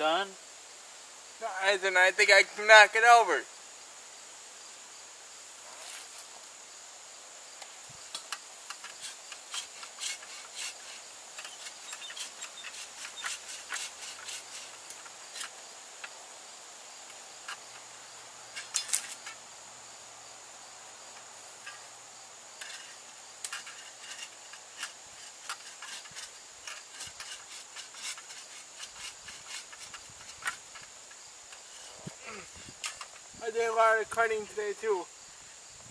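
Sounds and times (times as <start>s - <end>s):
high-pitched insect drone: 4.6s - 35.9s.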